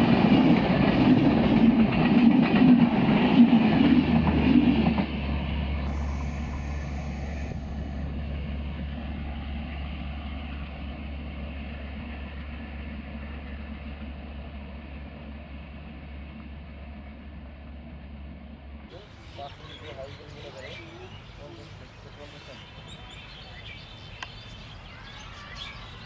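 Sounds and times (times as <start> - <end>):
train coaches rattling on rails: 0.0 - 26.0
train rumble: 0.0 - 26.0.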